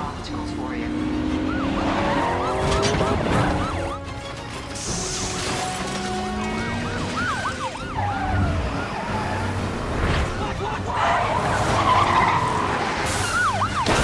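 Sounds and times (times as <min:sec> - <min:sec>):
car engines revving: 0:00.0 - 0:14.0
police sirens wailing: 0:00.0 - 0:14.0.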